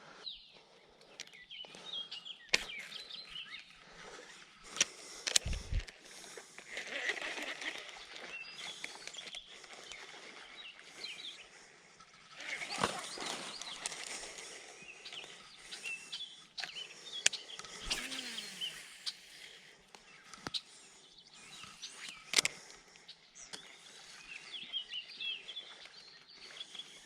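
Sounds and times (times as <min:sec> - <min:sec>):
outdoor background noise: 0:00.0 - 0:27.0
small birds chirping: 0:00.0 - 0:27.0.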